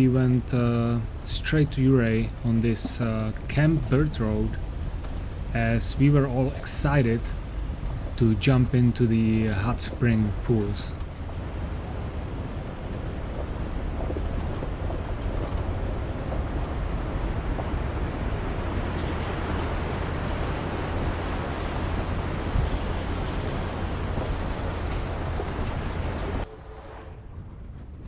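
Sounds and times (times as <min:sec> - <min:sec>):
low engine rumble: 0:00.0 - 0:28.0
road and tyre noise: 0:00.0 - 0:28.0.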